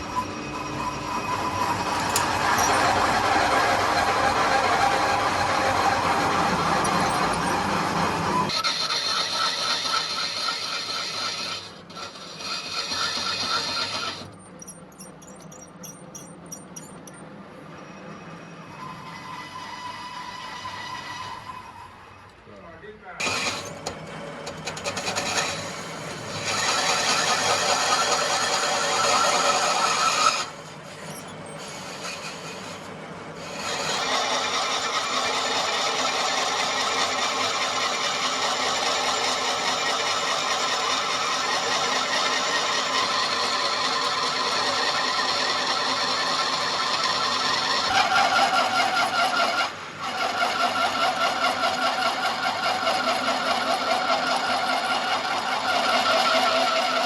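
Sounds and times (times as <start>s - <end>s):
workshop machinery running: 0.0s - 22.6s, 23.2s - 57.0s.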